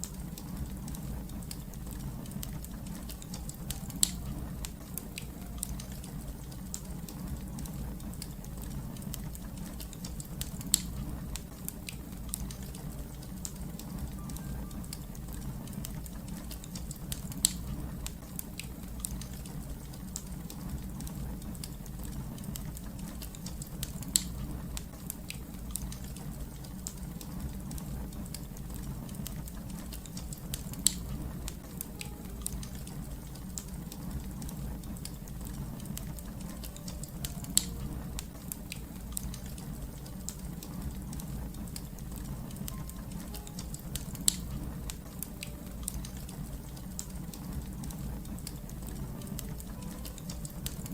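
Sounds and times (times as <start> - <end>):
fire burning and crackling: 0.0 - 50.9
sharp pops from fire: 0.2 - 14.2, 15.0 - 50.9.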